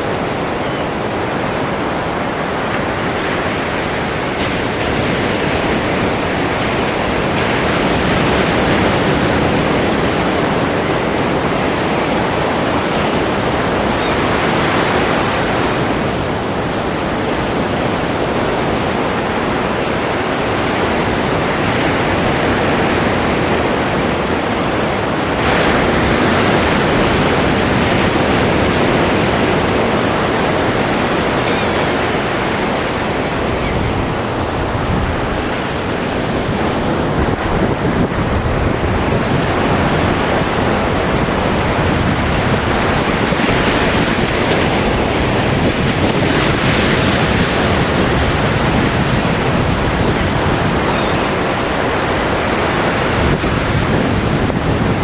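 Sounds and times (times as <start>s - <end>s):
ocean surf washing ashore: 0.0s - 55.0s
waves breaking: 0.0s - 55.0s.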